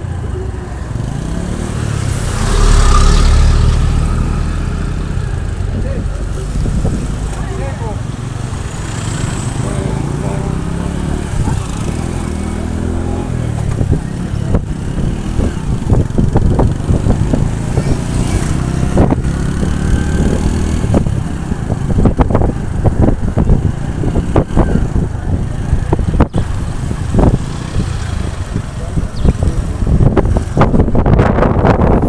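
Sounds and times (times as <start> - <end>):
motorcycle engine rumble: 0.0 - 32.0.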